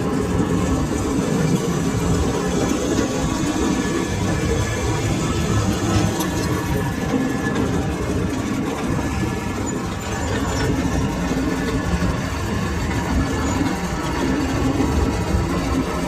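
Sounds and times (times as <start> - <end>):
lathe machine running: 0.0 - 16.0.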